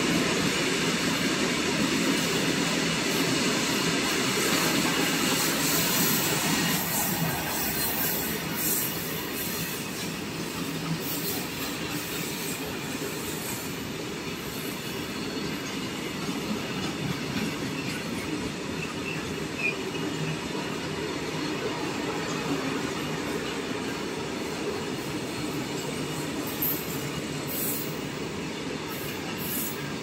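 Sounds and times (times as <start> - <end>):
freight wagons rumbling on rails: 3.2 - 30.0.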